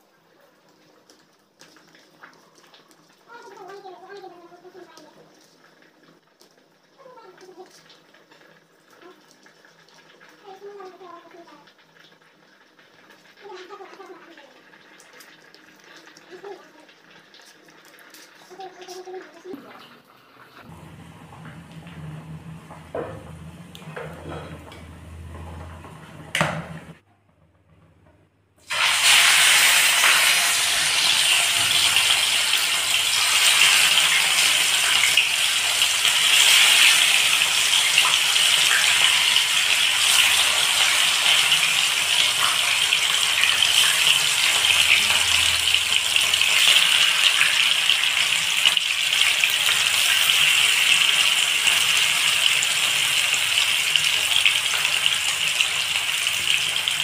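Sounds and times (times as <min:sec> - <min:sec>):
fish frying in hot oil: 0:00.6 - 0:19.5, 0:28.7 - 0:57.0.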